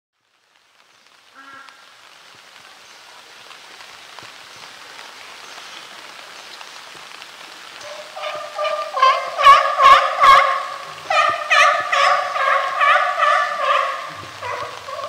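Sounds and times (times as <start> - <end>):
rain falling: 0.1 - 15.0.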